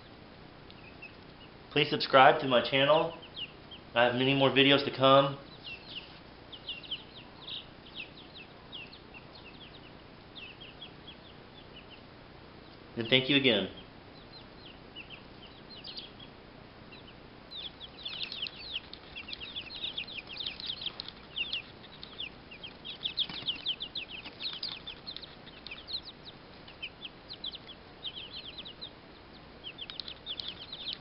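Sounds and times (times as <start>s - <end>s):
baby chicks peeping: 0.0s - 31.0s.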